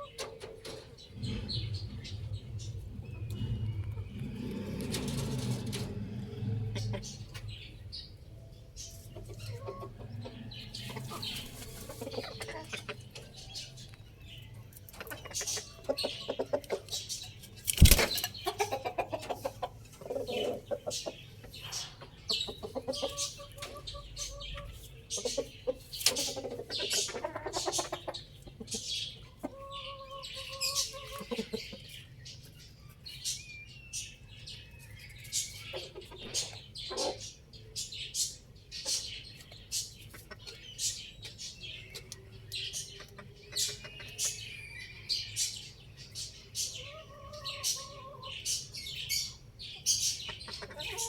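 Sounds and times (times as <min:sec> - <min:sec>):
chickens clucking: 0:00.0 - 0:51.0
small birds chirping: 0:00.0 - 0:51.0.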